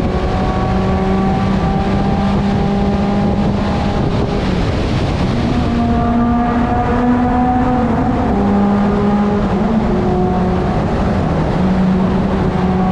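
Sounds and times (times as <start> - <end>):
road rumble: 0.0 - 12.9
vehicle engine hum: 0.0 - 12.9.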